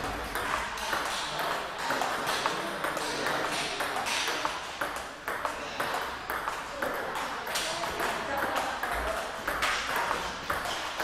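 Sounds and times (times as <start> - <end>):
table tennis ball clicking: 0.0 - 11.0.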